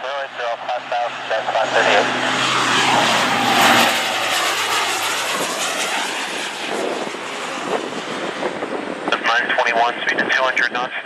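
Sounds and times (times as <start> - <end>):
airliner engines roaring: 0.0 - 11.0.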